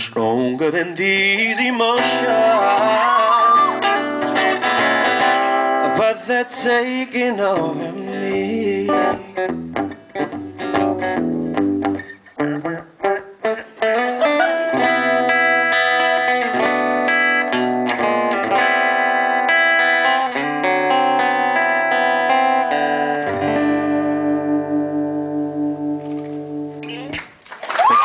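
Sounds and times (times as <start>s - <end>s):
acoustic guitar playing: 0.0s - 27.4s.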